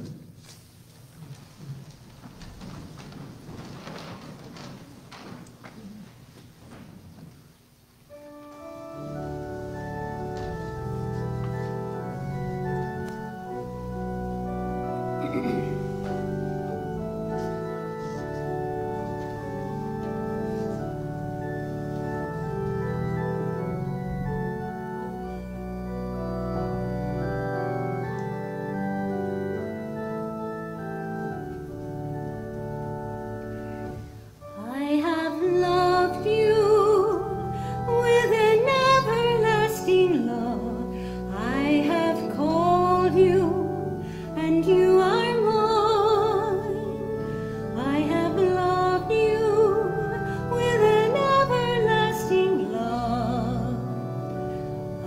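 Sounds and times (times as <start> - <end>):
organ chords: 1.3 - 55.0.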